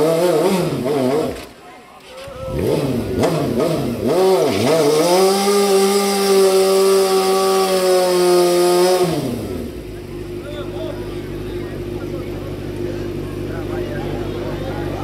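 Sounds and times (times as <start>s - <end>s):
motorcycle engine revving: 0.0s - 1.6s, 2.2s - 15.0s.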